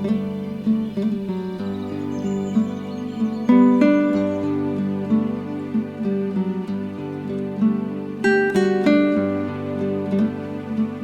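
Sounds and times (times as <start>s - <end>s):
plucked string instrumental music: 0.0s - 11.0s.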